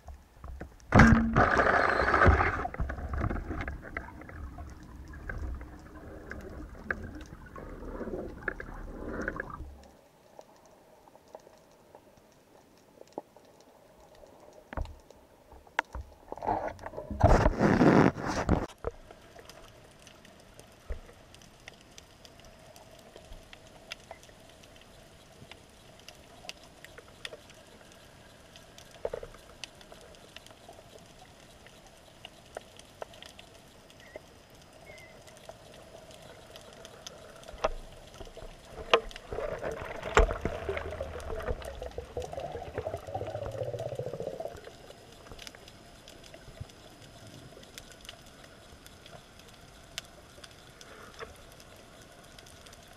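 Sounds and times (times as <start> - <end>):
underwater clicks and crackles: 0.0 - 52.9.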